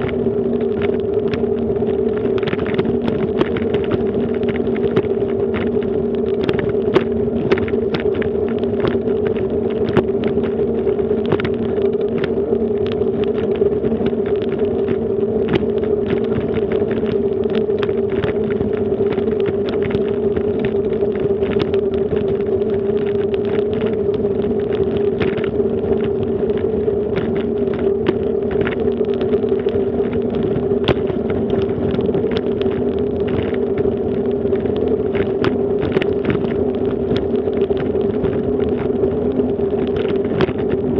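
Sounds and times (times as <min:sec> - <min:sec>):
bicycle tyres humming on bricks: 0:00.0 - 0:40.9.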